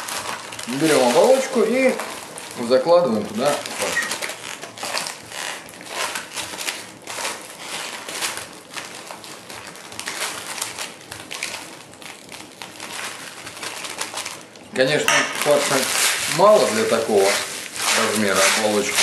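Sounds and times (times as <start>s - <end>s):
cellophane crinkling: 0.0s - 19.0s.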